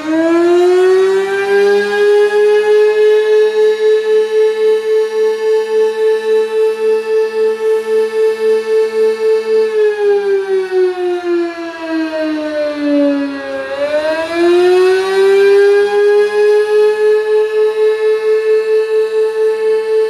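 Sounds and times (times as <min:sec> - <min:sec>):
outdoor warning siren: 0:00.0 - 0:20.0.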